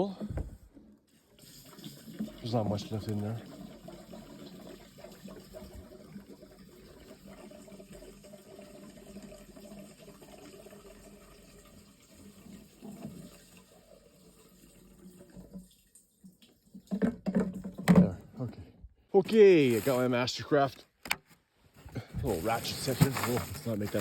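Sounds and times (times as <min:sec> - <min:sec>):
fuel pouring into tank: 0:00.0 - 0:18.1, 0:22.2 - 0:24.0.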